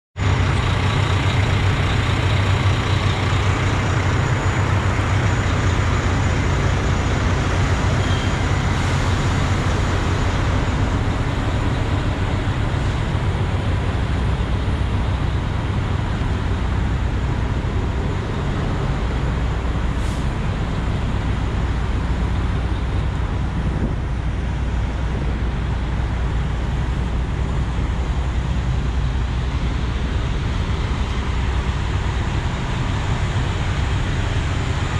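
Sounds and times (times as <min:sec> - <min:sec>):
diesel engines idling: 0:00.2 - 0:34.9.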